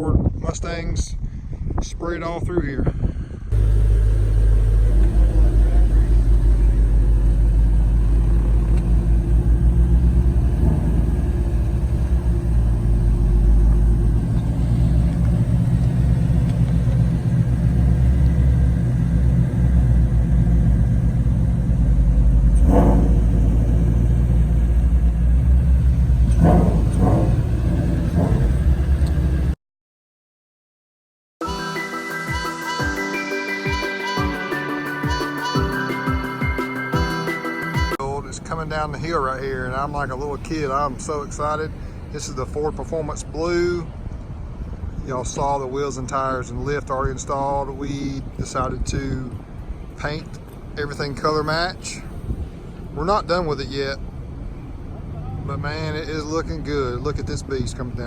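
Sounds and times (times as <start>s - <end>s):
car engine rumbling: 2.6s - 29.6s, 36.2s - 58.0s.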